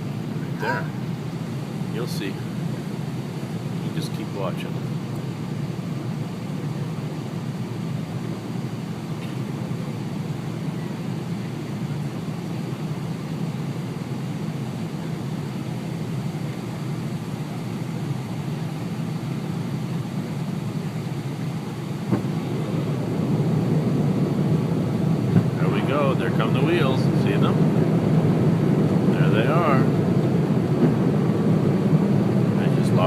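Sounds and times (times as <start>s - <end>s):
airliner cabin roar: 0.0s - 33.0s.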